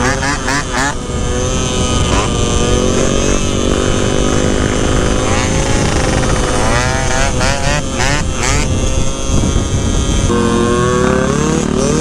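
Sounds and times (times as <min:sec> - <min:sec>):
two-stroke scooter engines revving: 0:00.0 - 0:12.0.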